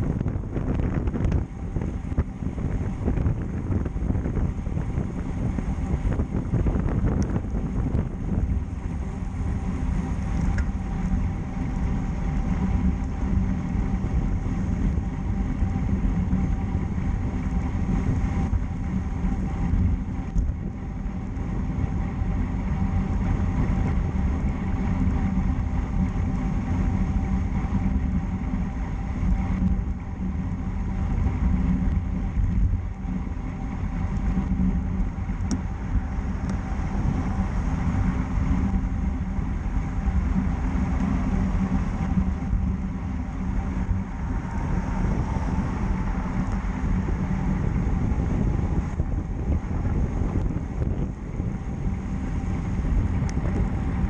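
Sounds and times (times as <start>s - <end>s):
bicycle tyre and road noise: 0.0s - 54.0s
wind rushing over microphone: 0.0s - 54.0s.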